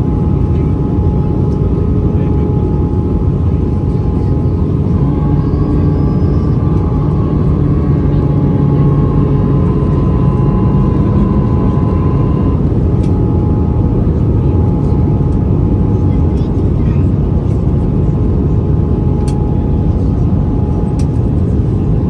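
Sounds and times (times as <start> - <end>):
airflow over fuselage: 0.0 - 22.0
airliner cabin engine noise: 0.0 - 22.0.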